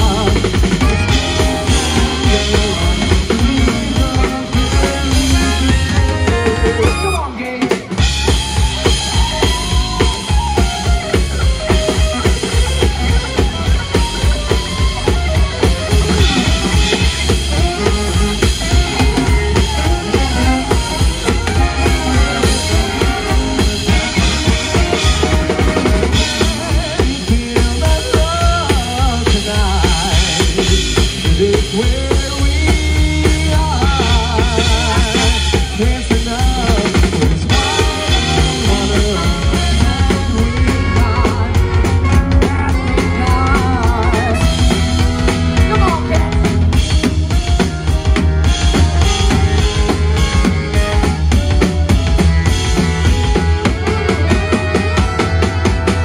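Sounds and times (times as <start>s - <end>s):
drum kit snare and rimshot hits: 0.0s - 56.0s
live band playing: 0.0s - 56.0s.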